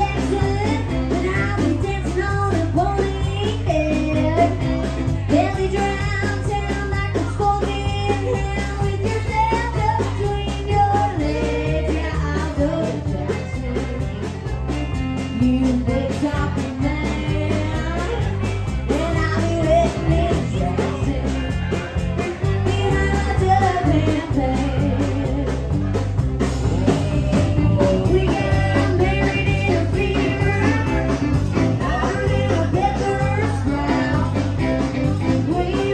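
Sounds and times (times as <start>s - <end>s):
live rock band playing: 0.0s - 35.9s
woman singing lead: 0.0s - 35.9s.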